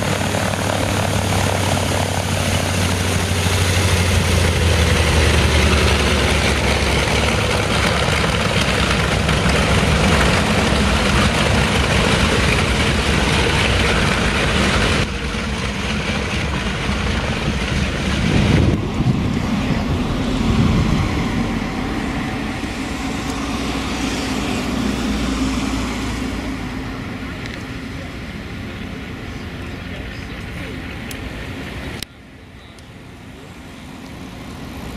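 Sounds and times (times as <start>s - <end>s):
radial piston engines droning: 0.0s - 34.9s.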